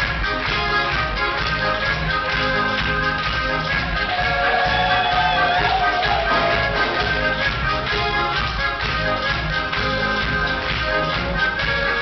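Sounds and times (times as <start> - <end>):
folk dance music: 0.0 - 12.0
spectators clapping along: 0.0 - 12.0.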